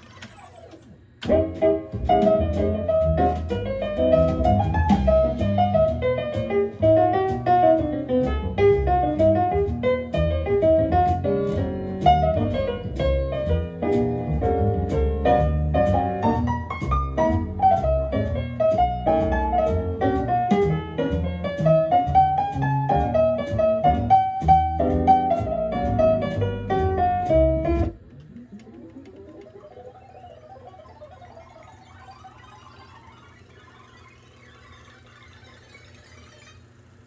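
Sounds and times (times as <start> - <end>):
piano music with bass line: 1.3 - 35.3.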